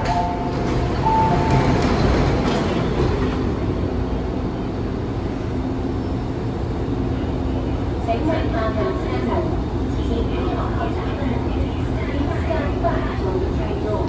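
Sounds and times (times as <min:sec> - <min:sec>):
train rumble and hum: 0:00.0 - 0:14.0.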